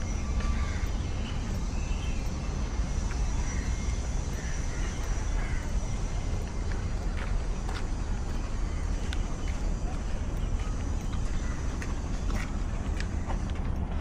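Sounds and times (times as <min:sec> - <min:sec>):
faint bird calls: 0:00.0 - 0:02.4, 0:03.2 - 0:13.6
steady low rumble: 0:00.0 - 0:14.0.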